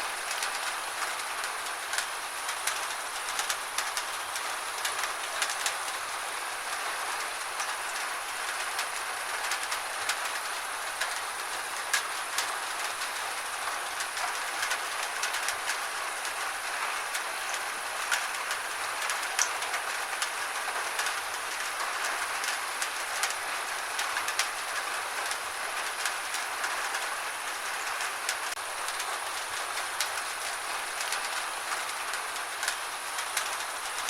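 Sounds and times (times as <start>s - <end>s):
gentle rain hiss: 0.0s - 34.0s.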